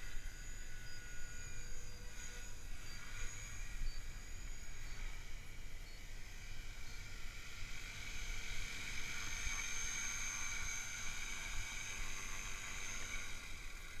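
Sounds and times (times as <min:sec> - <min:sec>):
rc helicopter motor whine: 0:00.0 - 0:14.0.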